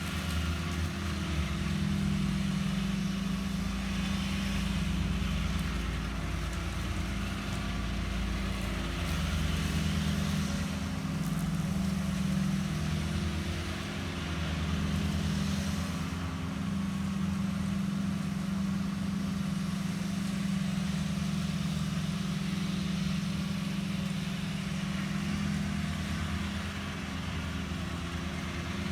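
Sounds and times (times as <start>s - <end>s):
mower engine running: 0.0s - 28.9s.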